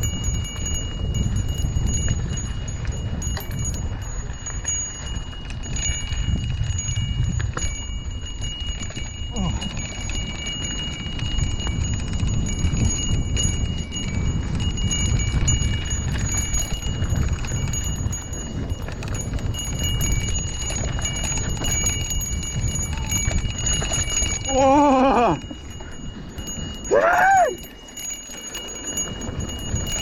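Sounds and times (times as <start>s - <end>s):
low rumble of wind: 0.0s - 30.0s
small bell ringing: 0.0s - 30.0s.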